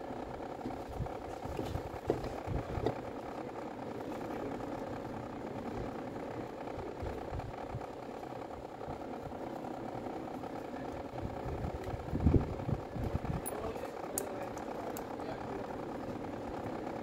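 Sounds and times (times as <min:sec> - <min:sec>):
motor droning: 0:00.0 - 0:17.0.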